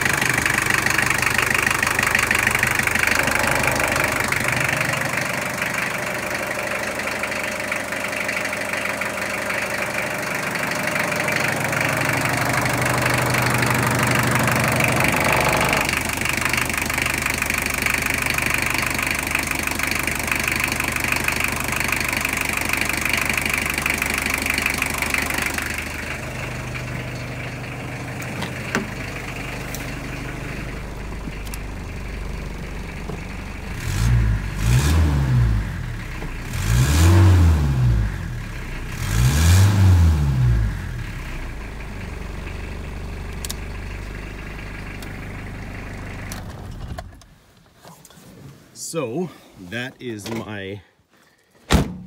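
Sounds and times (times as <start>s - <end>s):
diesel engine revving: 0.0s - 47.2s
diesel engine idling: 0.0s - 47.4s.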